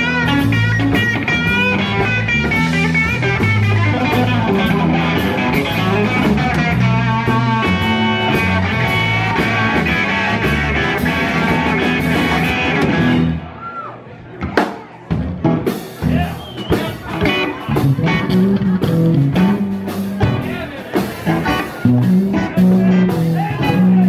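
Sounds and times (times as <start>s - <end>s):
crowd sounds: 0.0s - 24.0s
live blues band playing: 0.0s - 24.0s.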